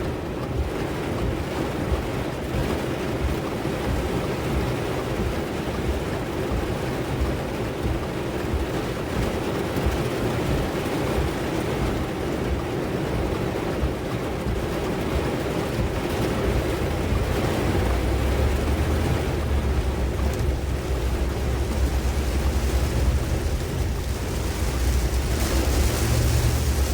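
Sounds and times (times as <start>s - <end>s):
rushing rain and water: 0.0s - 26.9s
wind buffeting microphone: 0.0s - 26.9s.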